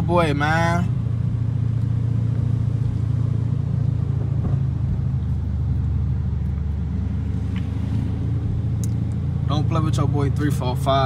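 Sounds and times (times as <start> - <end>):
car engine running low: 0.0 - 11.0.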